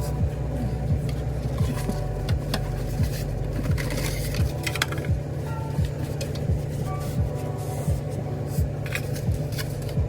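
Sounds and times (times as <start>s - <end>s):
music with deep bass beat: 0.0s - 10.0s.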